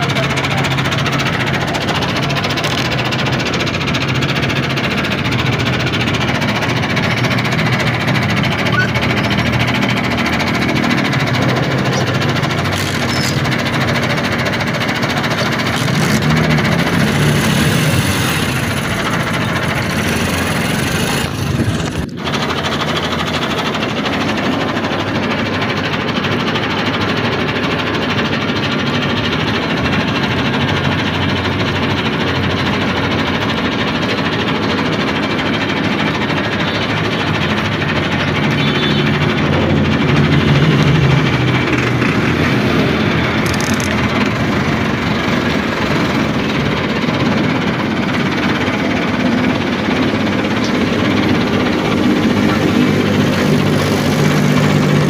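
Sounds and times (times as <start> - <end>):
engine rumbling and knocking: 0.0 - 55.0.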